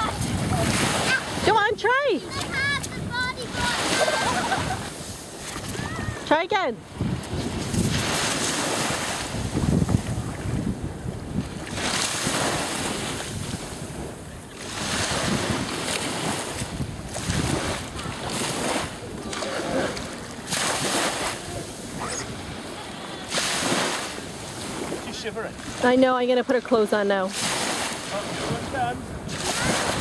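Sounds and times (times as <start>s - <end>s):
small waves washing onto beach: 0.0s - 30.0s
wind buffeting microphone: 0.0s - 30.0s.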